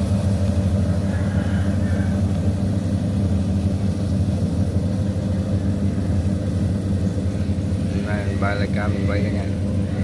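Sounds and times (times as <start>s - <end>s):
diesel engine running steadily: 0.0s - 10.0s.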